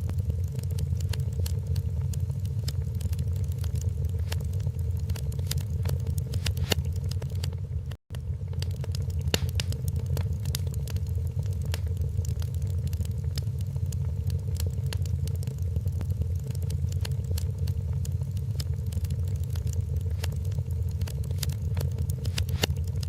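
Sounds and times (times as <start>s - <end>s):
low rumble of burning logs: 0.0s - 23.0s
wood fire crackling and popping: 0.0s - 23.0s.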